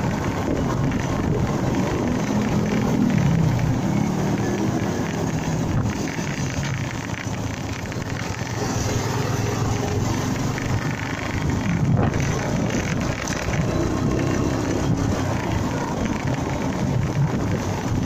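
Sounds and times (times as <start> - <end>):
motorcycle engine running: 0.0 - 18.0
wind rushing over microphone: 0.0 - 18.0.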